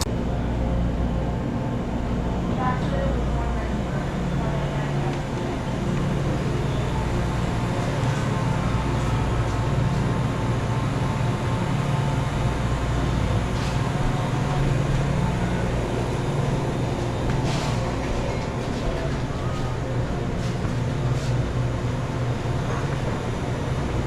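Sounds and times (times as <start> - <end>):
low mechanical drone: 0.0 - 24.0.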